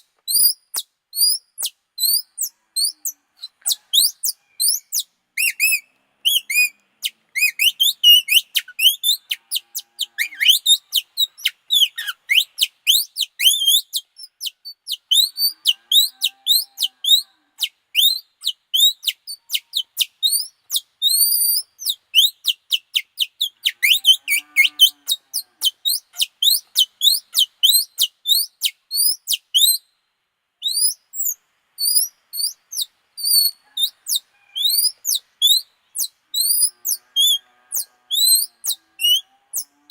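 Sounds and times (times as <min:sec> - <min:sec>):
high sliding chirps whistled: 0:00.3 - 0:14.3, 0:18.0 - 0:29.8, 0:30.6 - 0:39.8.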